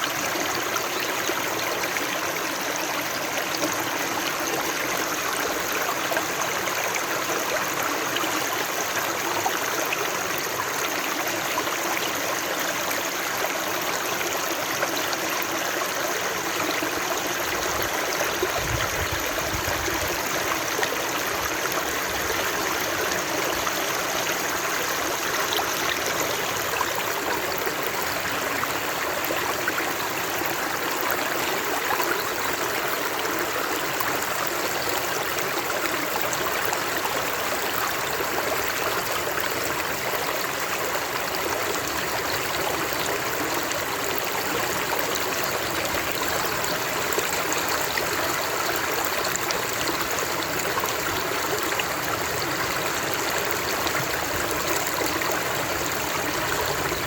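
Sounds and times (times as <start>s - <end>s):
stream of water flowing: 0.0s - 57.0s.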